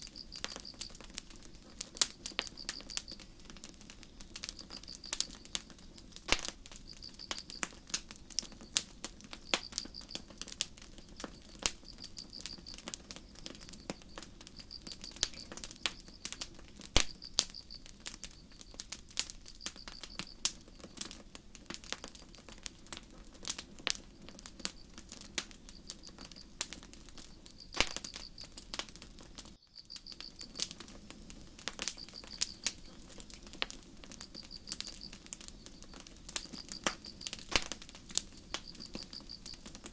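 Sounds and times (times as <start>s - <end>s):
crickets chirping: 0.0s - 21.4s, 23.6s - 39.9s
campfire crackling and popping: 0.0s - 39.9s.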